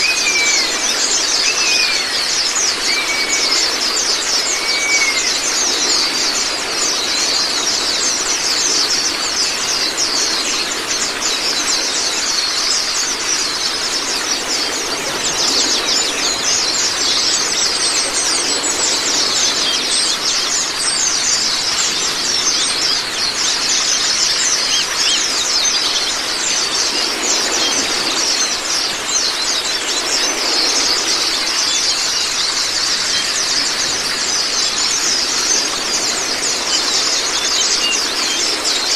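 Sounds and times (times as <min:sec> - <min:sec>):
birds twittering: 0:00.0 - 0:38.9
running water rushing: 0:00.0 - 0:38.9.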